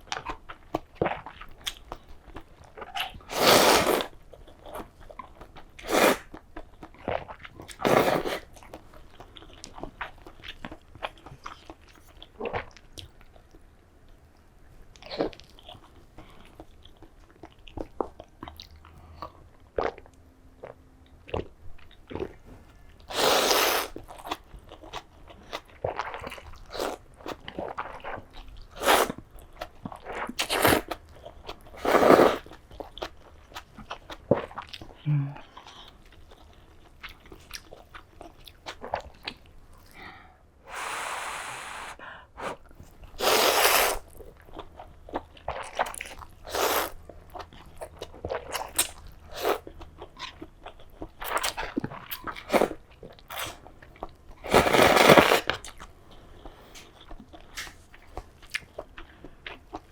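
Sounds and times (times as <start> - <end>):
person chewing crunchy food: 0.0 - 13.6, 14.9 - 40.1, 42.4 - 59.9.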